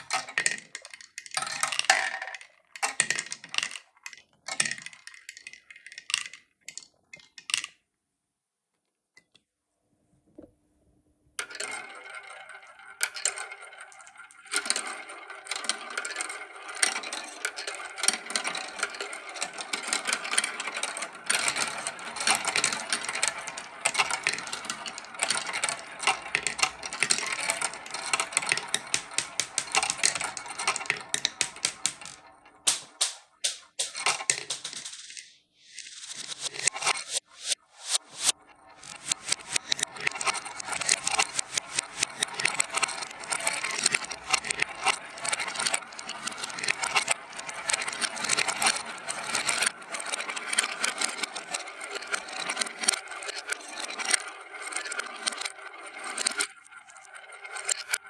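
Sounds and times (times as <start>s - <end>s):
marbles clattering through a run: 0.0s - 7.8s, 11.4s - 35.2s, 35.9s - 58.0s.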